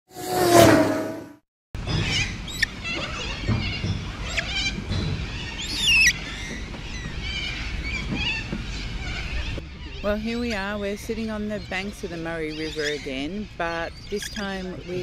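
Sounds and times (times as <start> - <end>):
birds calling and chirping: 1.8 - 15.0.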